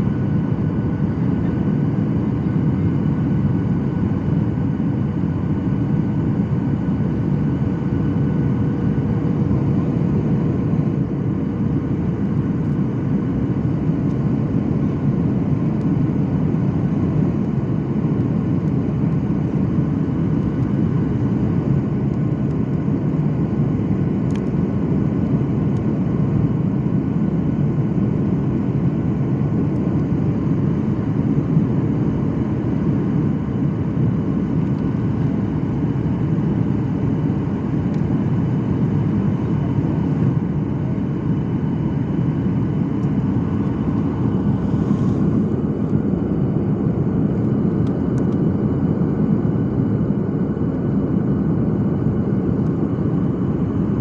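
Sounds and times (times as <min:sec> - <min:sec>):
airliner cabin rumble: 0:00.0 - 0:54.0
faint steady whine: 0:00.0 - 0:54.0.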